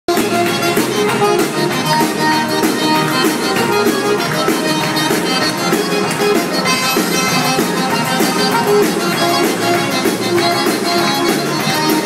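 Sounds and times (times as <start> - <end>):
drum kit steady beat: 0.1 - 12.0
electric bass: 0.1 - 12.0
live dance band playing: 0.1 - 12.0
pedal steel guitar: 0.1 - 12.0.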